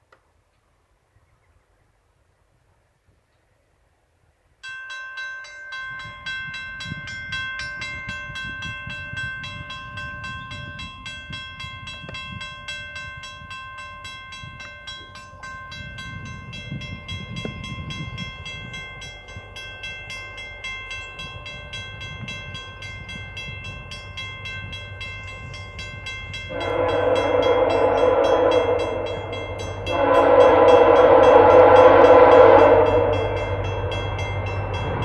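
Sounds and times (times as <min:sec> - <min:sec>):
crossing warning bell ringing: 0:04.6 - 0:35.0.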